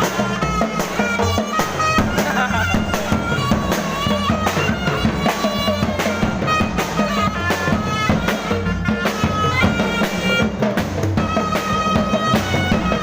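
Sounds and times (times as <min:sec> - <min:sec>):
reedy wind instrument melody: 0:00.0 - 0:13.0
steady drum beats: 0:00.0 - 0:13.0.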